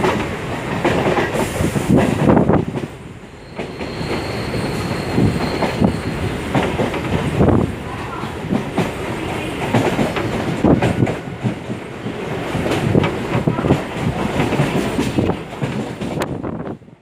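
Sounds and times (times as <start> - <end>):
train wheels clattering over joints: 0.0 - 16.4.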